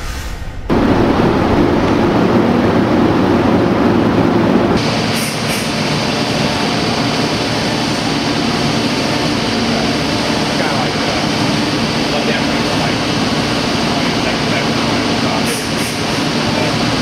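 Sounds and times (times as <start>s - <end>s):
high machine whine: 0.0s - 17.0s.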